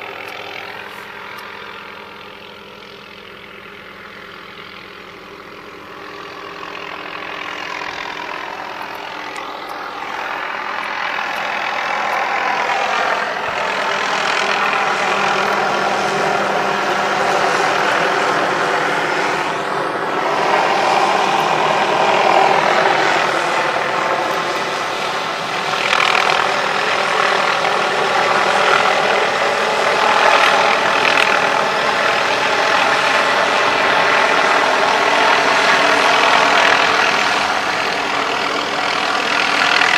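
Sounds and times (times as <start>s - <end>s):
loud engine running: 0.0s - 39.9s.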